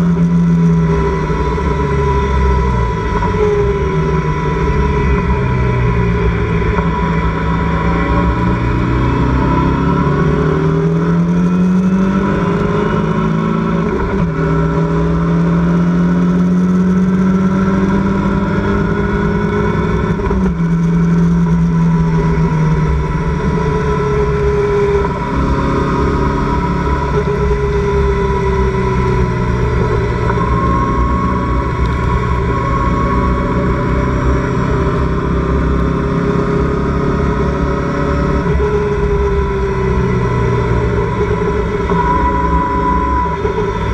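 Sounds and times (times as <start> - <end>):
race car engine revving: 0.0 - 43.9
wind and road noise: 0.0 - 43.9.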